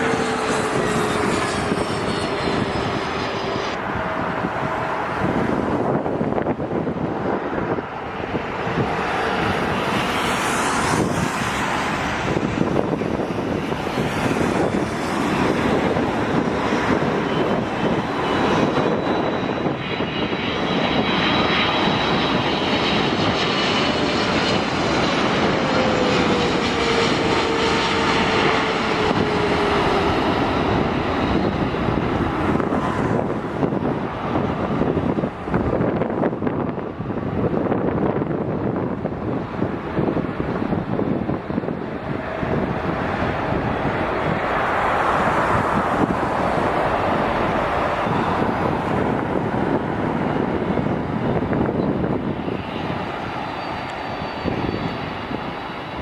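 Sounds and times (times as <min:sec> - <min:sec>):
high whine: 0:00.0 - 0:07.4, 0:10.8 - 0:56.0
jet engines running loud: 0:00.0 - 0:56.0.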